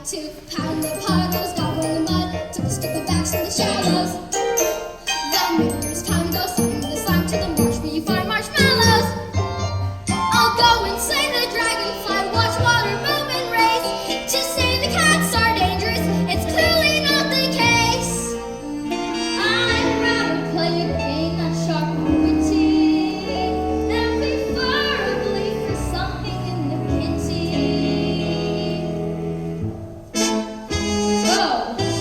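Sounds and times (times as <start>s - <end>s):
musical theatre accompaniment: 0.0s - 32.0s.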